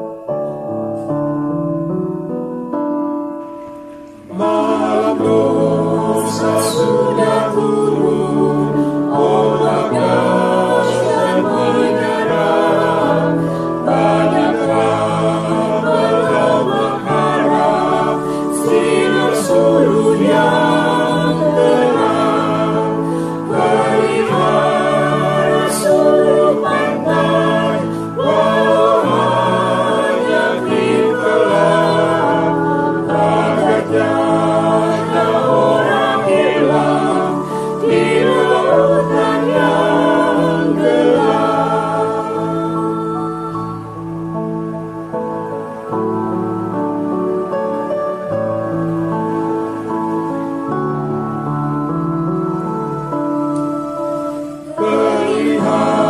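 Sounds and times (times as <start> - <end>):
mixed choir singing a hymn: 4.2 - 56.0.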